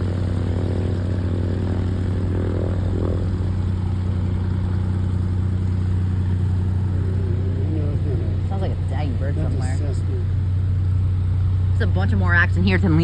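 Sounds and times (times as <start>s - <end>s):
piston engine idling: 0.0s - 13.0s.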